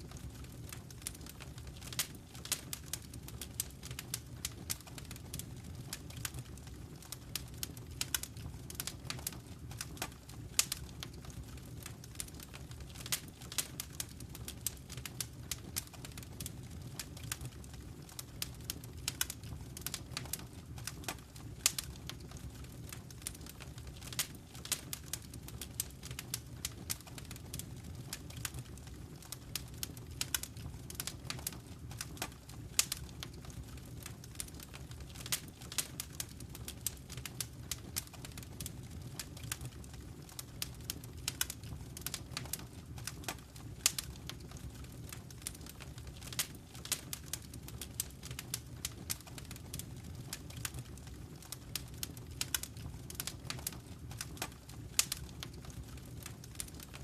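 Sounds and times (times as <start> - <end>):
low rumble of flame: 0.0 - 57.0
wood fire crackling: 0.0 - 57.0.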